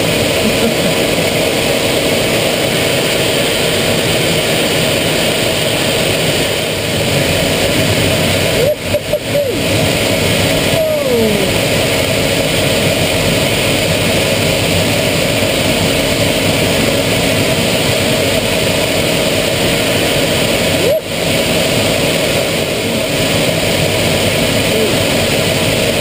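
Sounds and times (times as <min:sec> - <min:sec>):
jet engine running in cockpit: 0:00.0 - 0:26.0.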